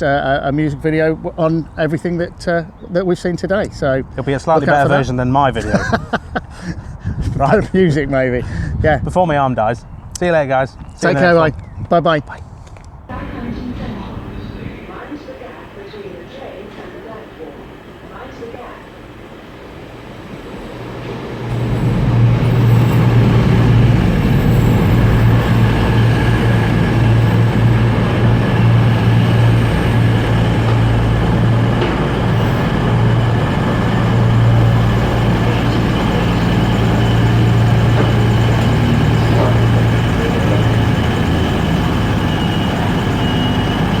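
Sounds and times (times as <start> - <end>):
passenger train rumbling: 0.0 - 44.0.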